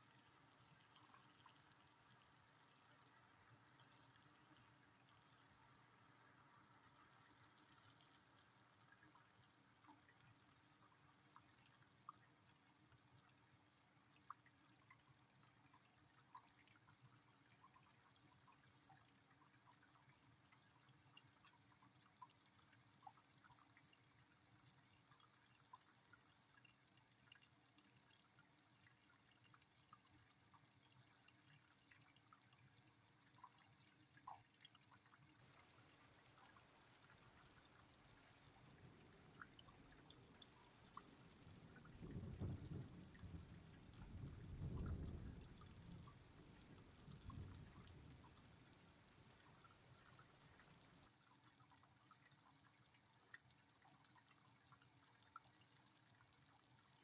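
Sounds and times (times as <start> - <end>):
drips ticking: 0.0 - 57.0
light rain: 0.0 - 57.0.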